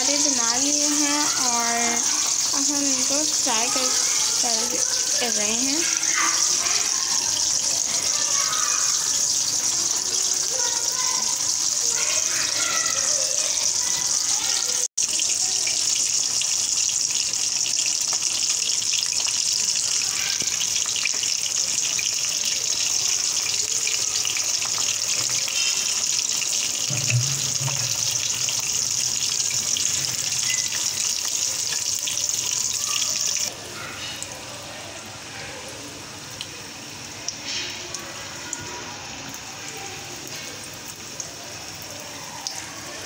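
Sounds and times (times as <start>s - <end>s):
food sizzling in hot oil: 0.0s - 43.0s.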